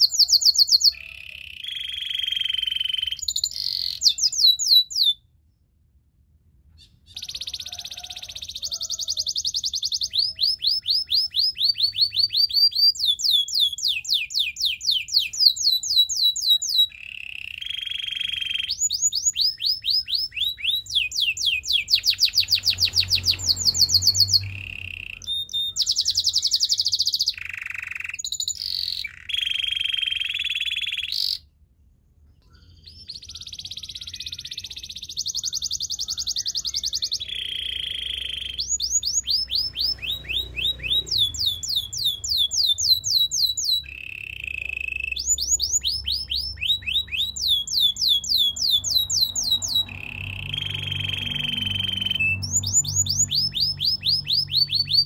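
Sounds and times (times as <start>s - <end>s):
canary singing: 0.0s - 5.7s, 6.7s - 31.6s, 32.4s - 55.0s.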